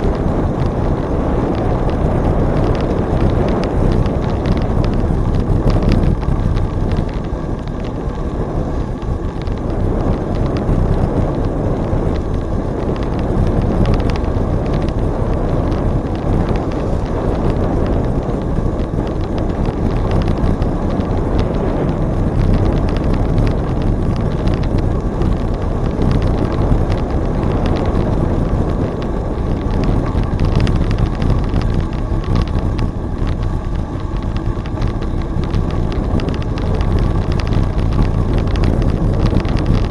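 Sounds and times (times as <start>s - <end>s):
bicycle rolling on trail: 0.0s - 39.9s
wind rushing over microphone: 0.0s - 39.9s.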